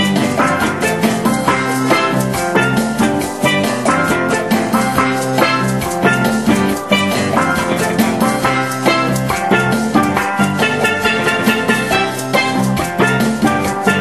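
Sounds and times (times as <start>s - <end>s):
band playing live music: 0.0s - 14.0s.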